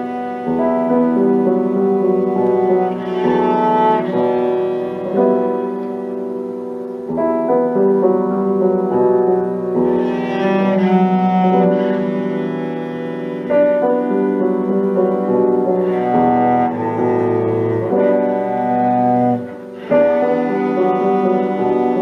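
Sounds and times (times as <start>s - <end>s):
cello bowed notes: 0.0s - 22.0s
piano playing: 0.0s - 22.0s.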